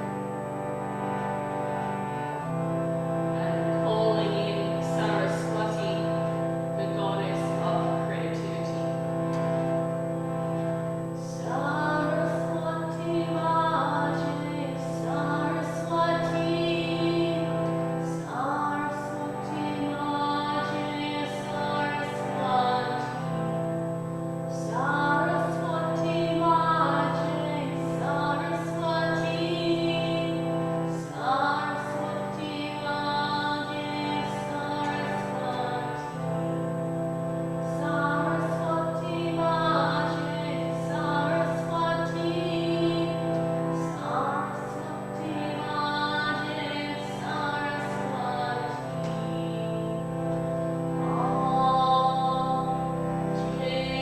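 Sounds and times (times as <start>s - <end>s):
sustained drone: 0.0s - 54.0s
woman singing a slow chant: 2.4s - 9.5s, 11.1s - 54.0s.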